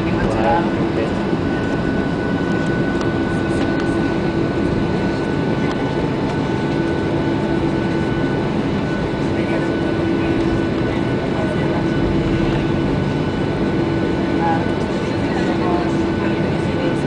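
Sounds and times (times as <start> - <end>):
jet engines humming and whining: 0.0 - 17.0.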